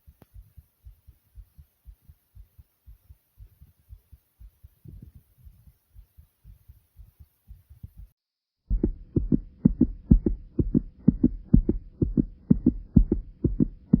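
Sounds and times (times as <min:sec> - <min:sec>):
faint steady hum: 0:00.0 - 0:14.0
fast heartbeat thumps: 0:00.0 - 0:14.0.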